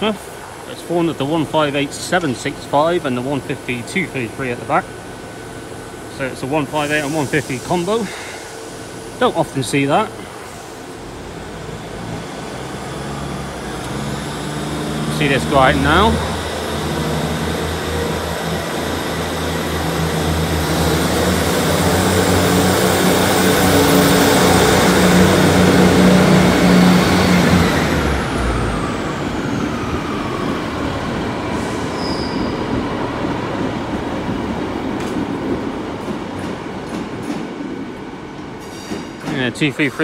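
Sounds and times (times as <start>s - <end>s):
diesel train pulling away: 0.0s - 40.0s.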